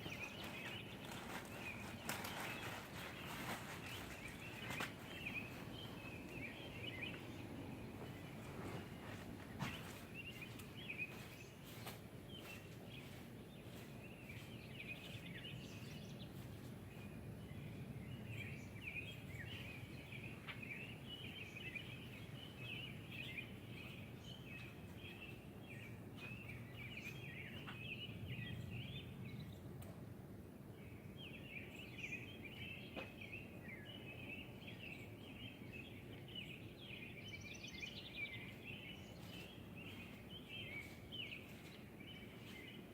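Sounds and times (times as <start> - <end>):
birds chirping: 0.0 - 29.7, 30.7 - 42.9.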